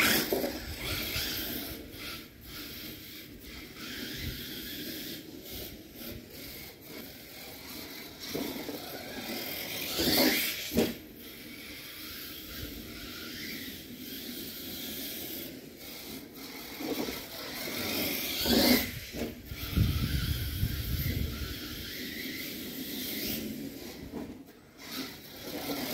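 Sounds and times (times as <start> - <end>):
toy truck motor revving whine: 0.0 - 25.9.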